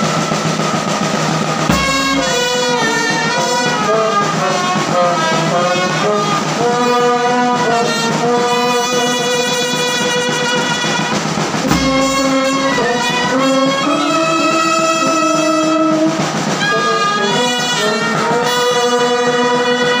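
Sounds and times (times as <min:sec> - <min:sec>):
brass band playing: 0:00.0 - 0:20.0
clarinet playing: 0:00.0 - 0:20.0.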